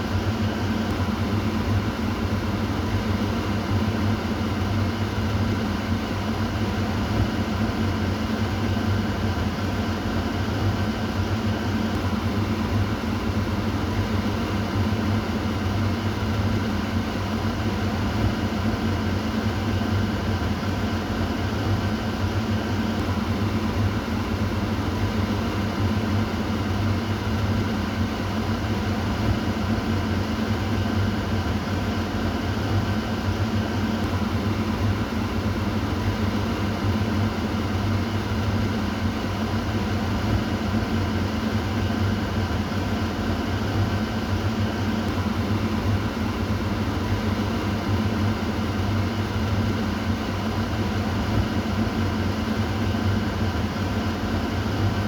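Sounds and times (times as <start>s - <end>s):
kitchen exhaust fan running: 0.0s - 55.0s.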